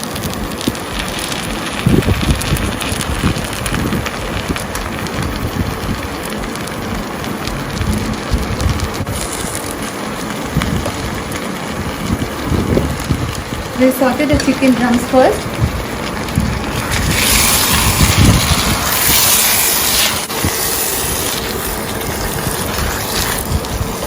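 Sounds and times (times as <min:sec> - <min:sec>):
chicken frying in oil: 0:00.0 - 0:24.0.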